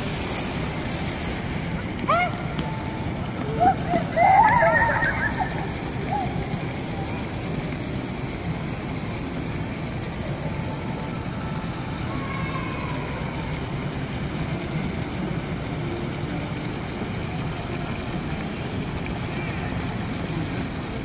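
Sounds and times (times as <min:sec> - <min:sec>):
fountain water splashing: 0:00.0 - 0:21.0
indoor atrium background noise: 0:00.0 - 0:21.0.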